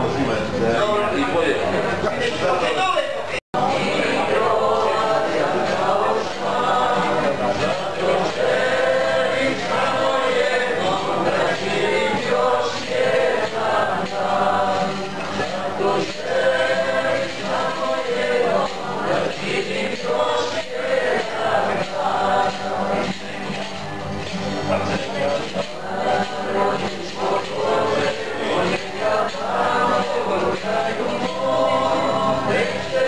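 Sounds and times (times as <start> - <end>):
strummed acoustic guitars: 0.0 - 33.0
group singing: 3.6 - 33.0.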